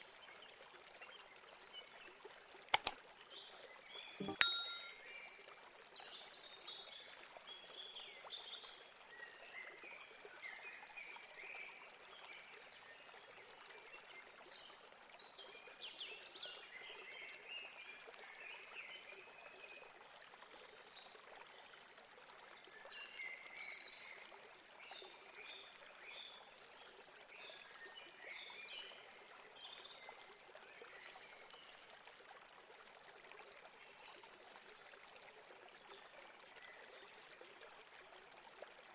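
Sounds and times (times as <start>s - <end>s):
faint stream running water: 0.0s - 38.9s.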